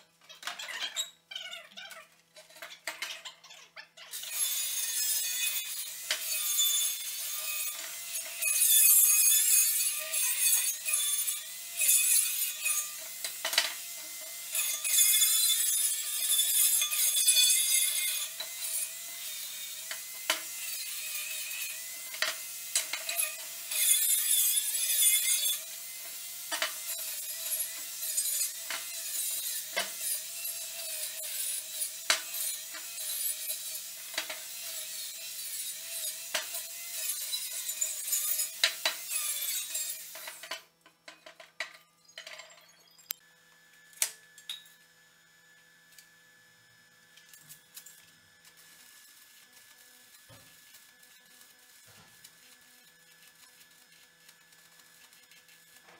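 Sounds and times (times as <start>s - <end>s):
angle grinder cutting steel: 4.1s - 40.7s, 47.3s - 55.9s.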